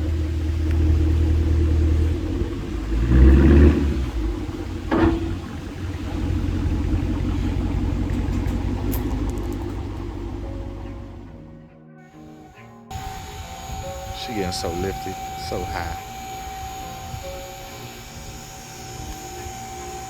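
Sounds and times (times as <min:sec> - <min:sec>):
car exhaust rumbling at idle: 0:00.0 - 0:12.2, 0:12.9 - 0:20.0.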